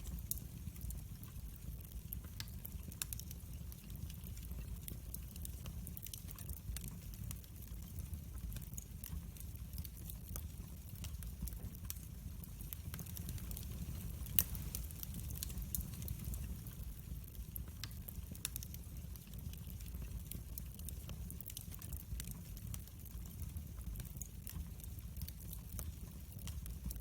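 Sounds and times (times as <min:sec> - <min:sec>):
fire flames rumbling: 0:00.0 - 0:27.0
wood fire crackling and popping: 0:00.0 - 0:27.0.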